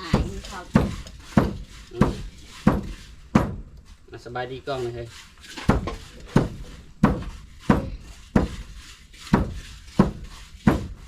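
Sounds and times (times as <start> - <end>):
pestle pounding in mortar: 0.0 - 11.0.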